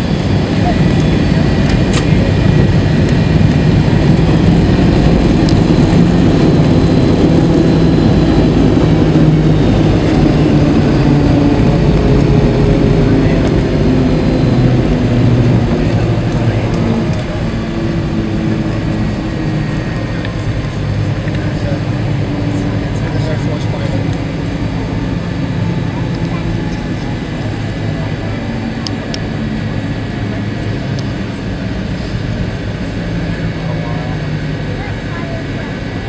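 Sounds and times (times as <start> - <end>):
airliner engine and wheel rumble: 0.0 - 36.0.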